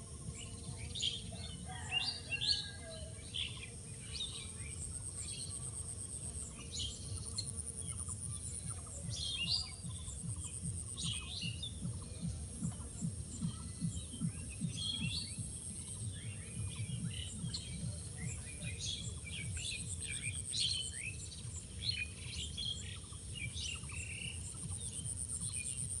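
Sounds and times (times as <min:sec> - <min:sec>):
birds chirping: 0:00.0 - 0:26.0
pulsing insect trill: 0:00.0 - 0:26.0.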